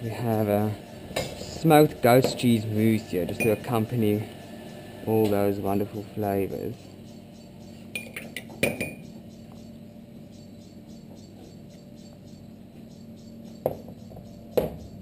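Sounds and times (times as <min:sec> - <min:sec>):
high pulsing background: 0:00.0 - 0:14.5.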